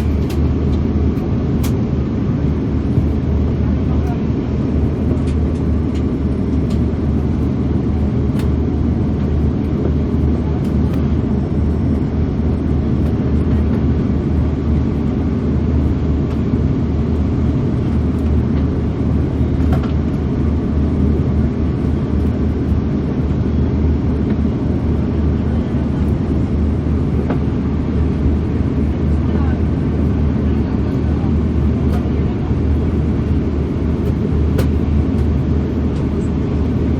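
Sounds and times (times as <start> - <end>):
airliner cabin engine rumble: 0.0 - 36.9.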